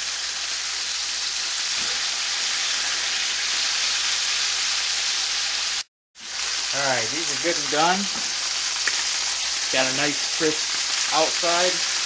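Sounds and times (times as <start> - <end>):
steaks sizzling in hot oil: 0.0 - 12.0.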